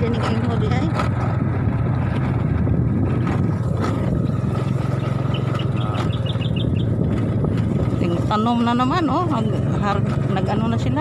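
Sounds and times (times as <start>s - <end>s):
small motorcycle engine cruising: 0.0s - 11.0s.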